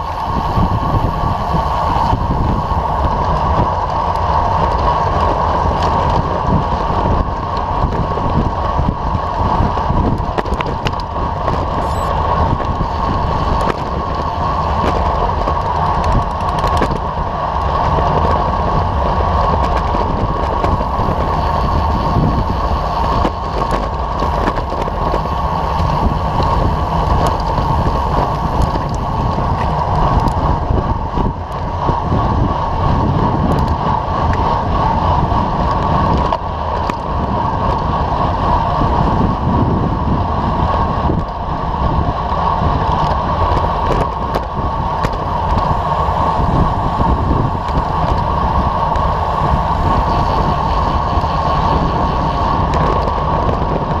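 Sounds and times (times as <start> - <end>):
bike tyre road noise: 0.0 - 54.0
wind buffeting microphone: 0.0 - 54.0.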